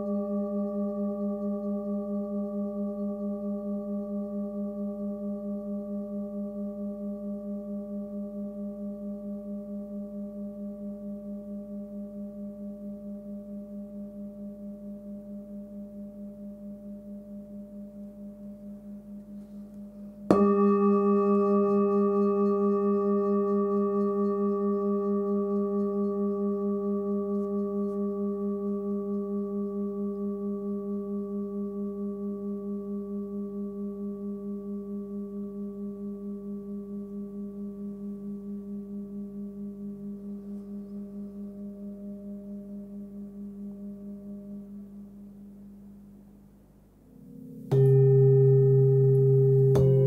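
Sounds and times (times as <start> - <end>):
singing bowl ringing: 0.0 - 45.3, 47.1 - 50.0.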